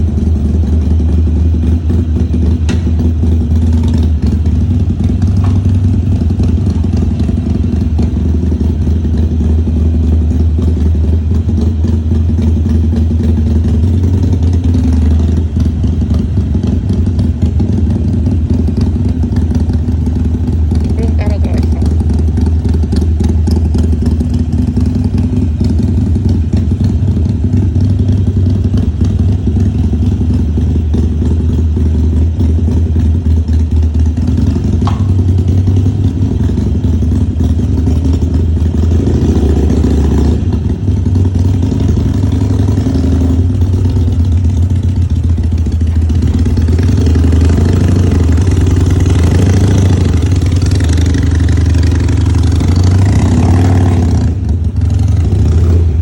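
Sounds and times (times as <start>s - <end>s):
motorcycle engine low rumble: 0.0s - 56.0s.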